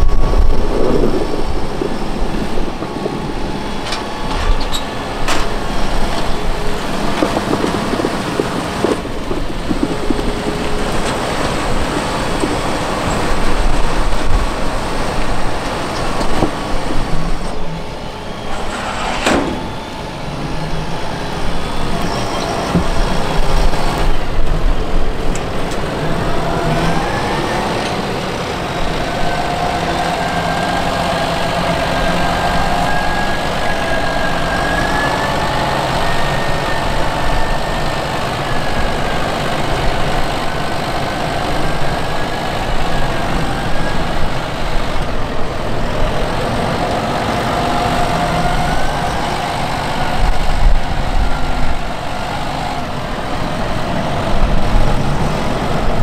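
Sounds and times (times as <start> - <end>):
high machinery whine: 0.0 - 56.0
tractor engine and machinery noise: 0.0 - 56.0.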